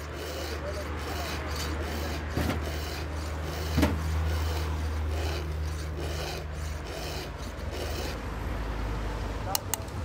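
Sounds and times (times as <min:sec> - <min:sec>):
file rasping on chainsaw chain: 0:00.0 - 0:08.4.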